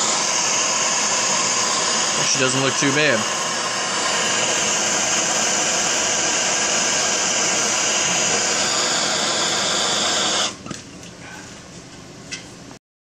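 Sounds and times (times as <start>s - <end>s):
gas torch flame rushing: 0.0s - 10.7s.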